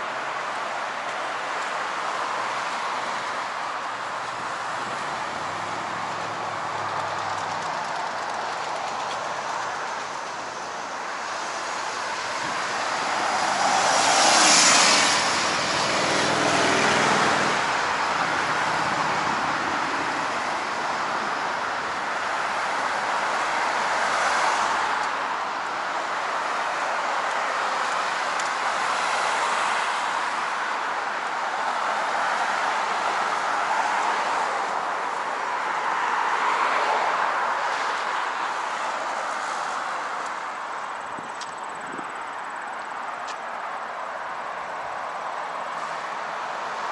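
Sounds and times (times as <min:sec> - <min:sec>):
road traffic passing: 0:00.0 - 0:46.9.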